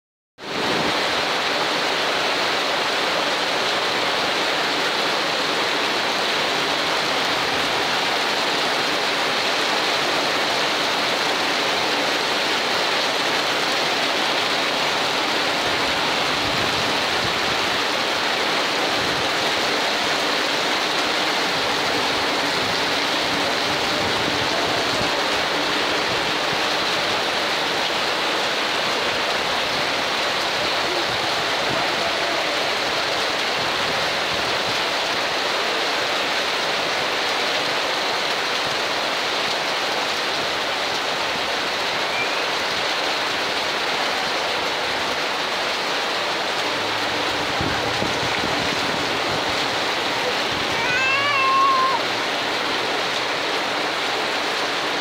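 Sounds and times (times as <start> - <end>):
floodwater flowing fast: 0.4 - 55.0
heavy rain on metal roof: 0.4 - 55.0.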